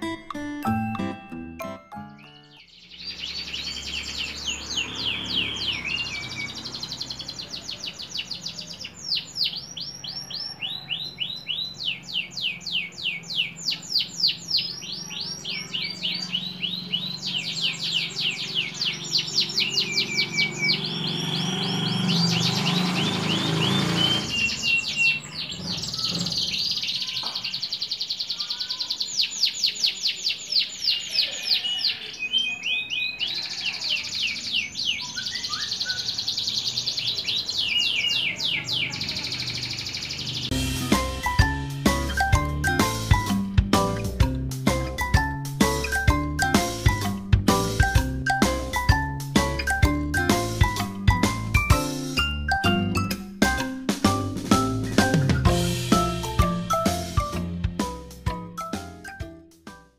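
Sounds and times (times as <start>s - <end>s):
canary singing trills: 2.0s - 57.4s.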